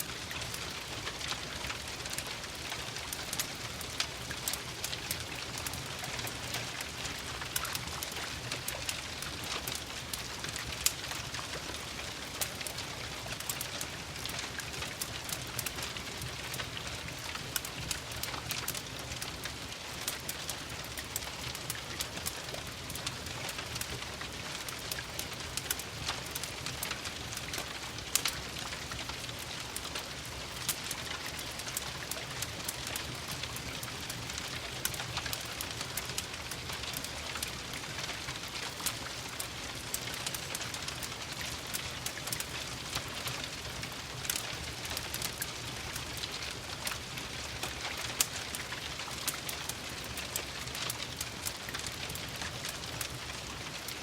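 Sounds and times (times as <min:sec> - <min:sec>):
gentle rain hiss: 0:00.0 - 0:54.0
wood fire crackling: 0:00.0 - 0:54.0.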